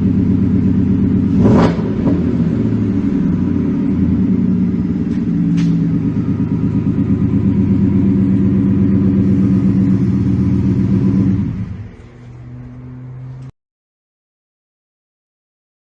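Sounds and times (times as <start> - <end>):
truck engine pulsing rumble: 0.0 - 13.5.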